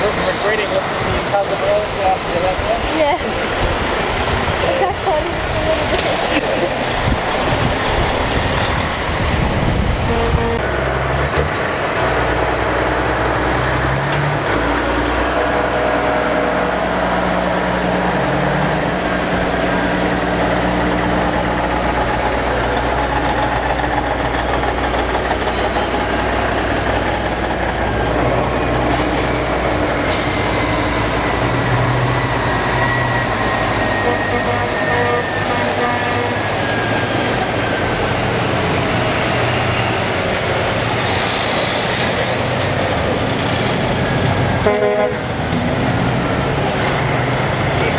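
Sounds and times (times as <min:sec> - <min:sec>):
diesel trucks passing: 0:00.0 - 0:47.9.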